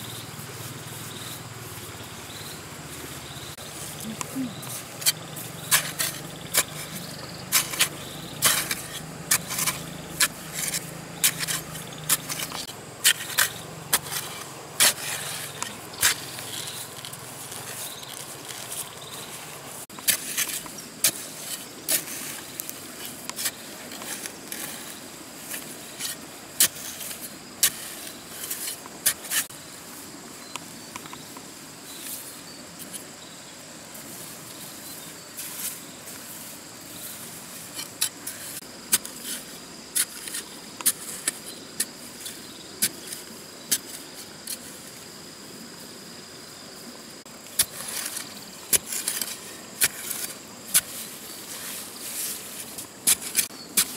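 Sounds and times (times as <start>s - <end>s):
digging tool scraping wet sand: 3.2s - 29.6s, 34.0s - 45.0s, 47.2s - 53.9s.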